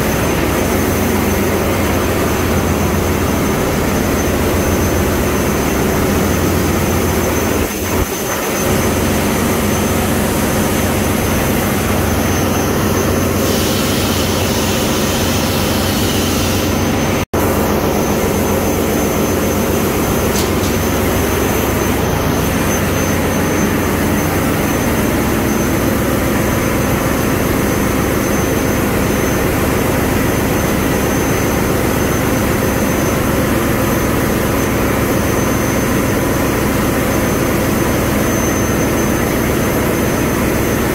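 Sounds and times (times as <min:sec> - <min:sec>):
marine diesel engines droning: 0:00.0 - 0:40.9.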